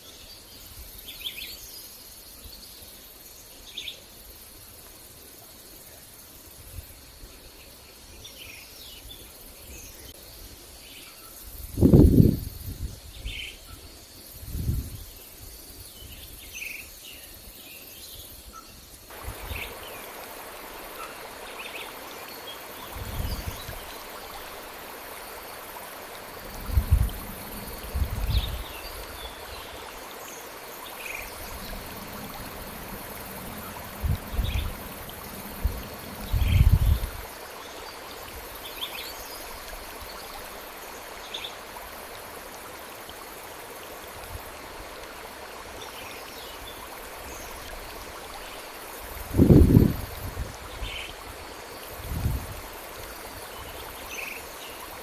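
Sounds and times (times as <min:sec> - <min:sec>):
faint insect drone: 0:00.0 - 0:55.0
stream flowing: 0:00.0 - 0:55.0.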